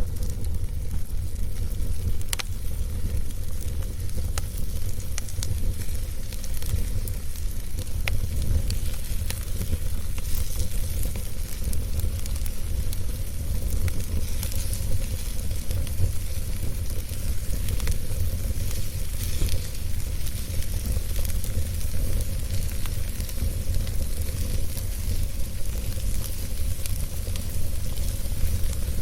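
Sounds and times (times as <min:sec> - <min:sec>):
fire crackling and popping: 0:00.0 - 0:29.0
fire rumbling: 0:00.0 - 0:29.0
hissing sizzle: 0:00.0 - 0:29.0.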